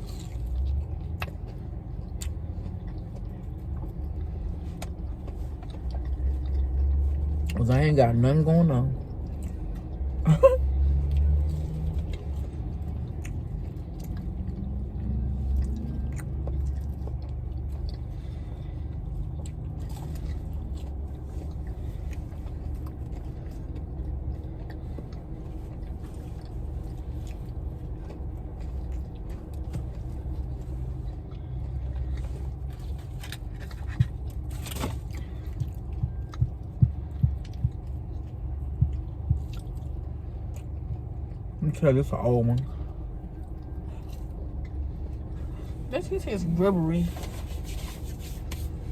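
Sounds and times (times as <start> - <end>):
car rumble inside cabin: 0.0 - 48.9.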